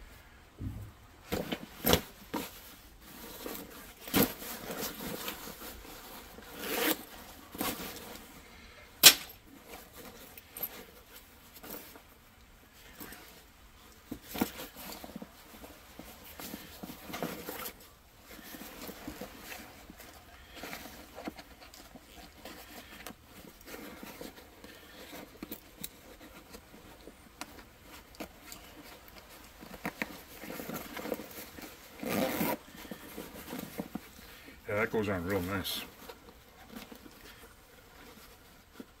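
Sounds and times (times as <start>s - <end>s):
fabric rustling and scraping: 0.1s - 39.0s.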